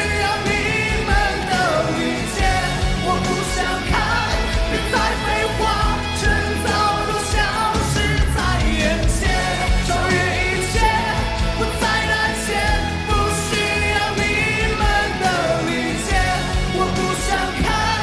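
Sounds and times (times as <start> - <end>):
man singing: 0.0 - 18.0
rock band playing: 0.0 - 18.0.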